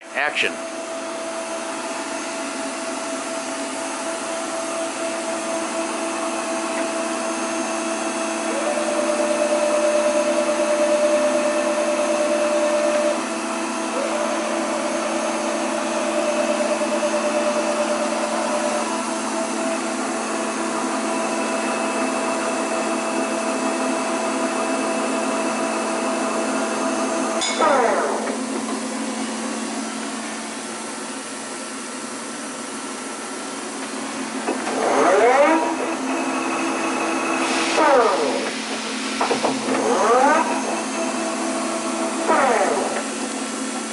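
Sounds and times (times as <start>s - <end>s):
lathe machine whine: 0.5s - 43.9s.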